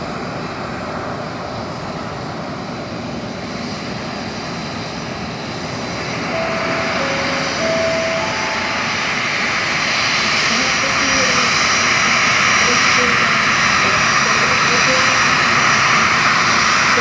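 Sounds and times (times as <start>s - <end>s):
jet engines with high whine: 0.0s - 17.0s.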